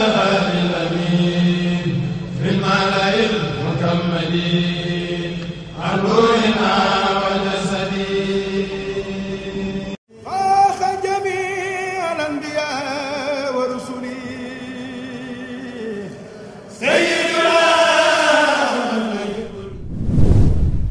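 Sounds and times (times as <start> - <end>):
chanted vocal with wavering notes: 0.0 - 17.5.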